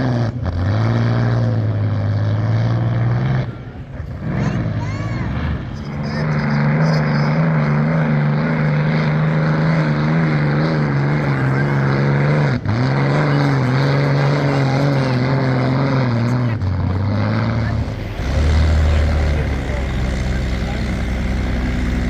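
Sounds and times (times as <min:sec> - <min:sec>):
loud hydroplane engine running: 0:00.0 - 0:22.0.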